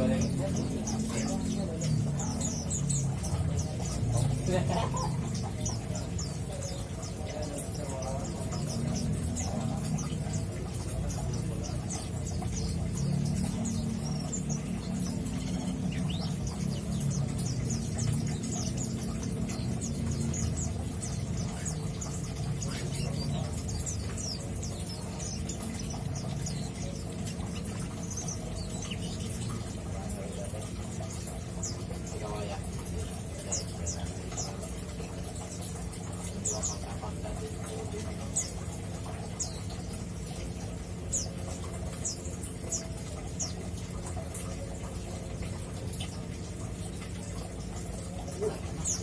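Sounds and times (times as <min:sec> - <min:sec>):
bird twittering high chirps: 0:00.0 - 0:49.0.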